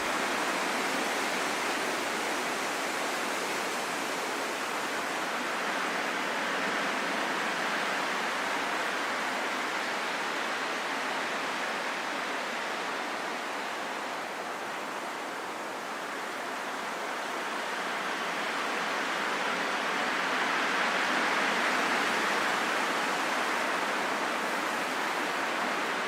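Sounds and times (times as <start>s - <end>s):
rushing wind: 0.0s - 26.0s.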